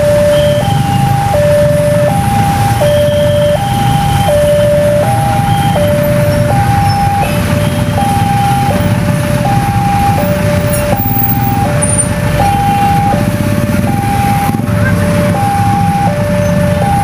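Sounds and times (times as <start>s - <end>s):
level-crossing two-tone alarm: 0.0s - 17.0s
motorcycle engines running: 0.0s - 17.0s.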